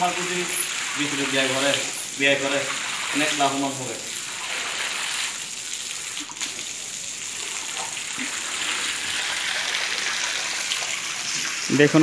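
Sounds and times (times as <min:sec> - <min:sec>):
water gushing from a hose: 0:00.0 - 0:12.0.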